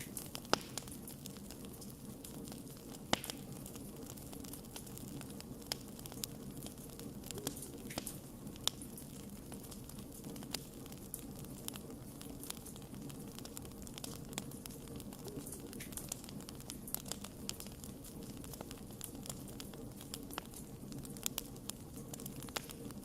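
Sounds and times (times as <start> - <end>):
campfire crackling: 0.0 - 23.0
low rush of flame: 0.0 - 23.0.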